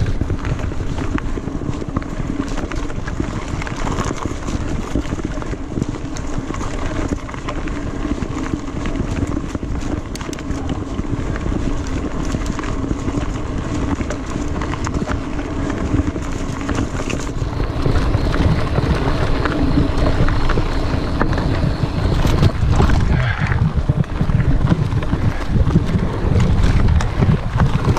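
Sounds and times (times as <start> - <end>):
bike rattling and knocking: 0.0 - 27.9
tyres rumbling over dirt: 0.0 - 27.9
wind on microphone: 0.0 - 27.9.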